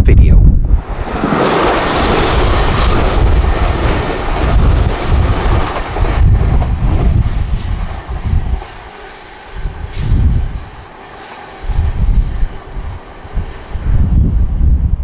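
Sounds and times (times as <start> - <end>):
wind buffeting microphone: 0.0 - 15.0
train passing at speed: 0.6 - 15.0.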